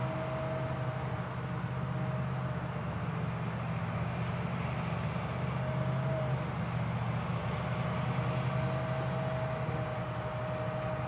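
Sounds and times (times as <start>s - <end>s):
harvester engine drone: 0.0s - 11.0s
tractor engine: 0.0s - 11.0s.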